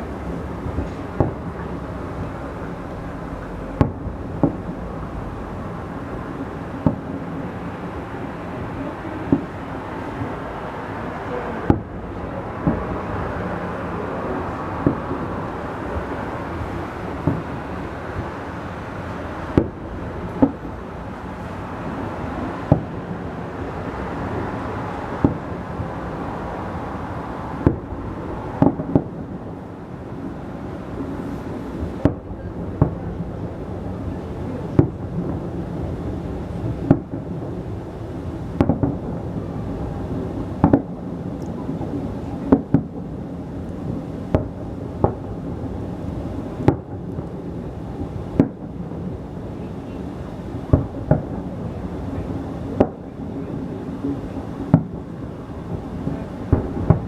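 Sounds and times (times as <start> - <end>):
fireworks bursting with sharp bangs: 0.0 - 57.0
steady background noise: 0.0 - 57.0.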